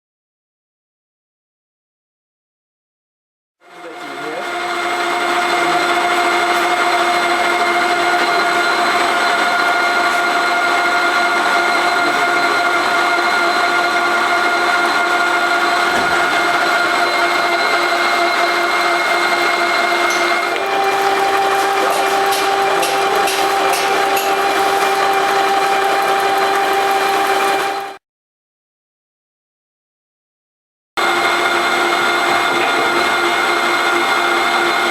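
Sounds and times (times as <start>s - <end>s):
stirling engine whirring: 3.8s - 28.0s, 31.0s - 34.9s.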